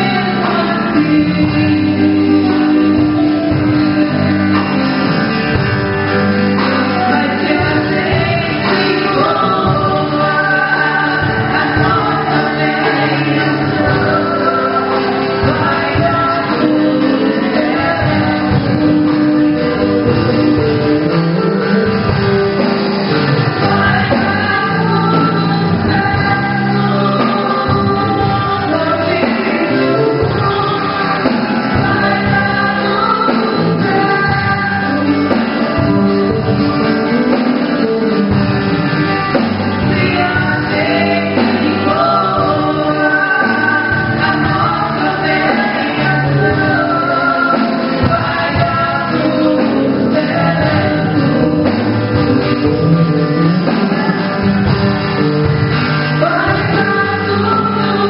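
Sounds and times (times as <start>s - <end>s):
gospel singing with instruments: 0.0s - 58.0s.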